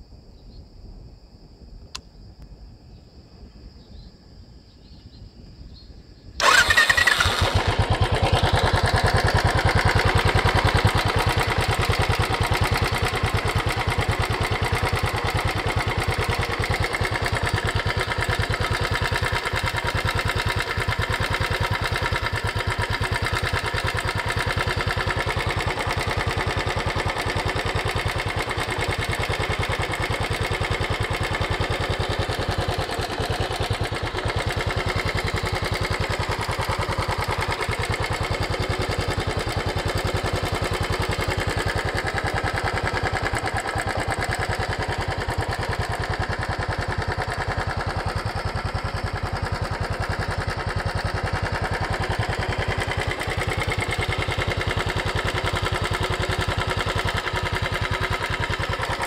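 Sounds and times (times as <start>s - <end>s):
motorcycle engine idling: 6.4s - 59.0s.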